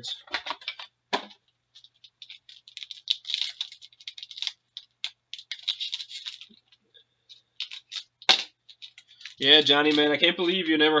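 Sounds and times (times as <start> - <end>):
packaging crinkling and tearing: 1.7 - 10.6.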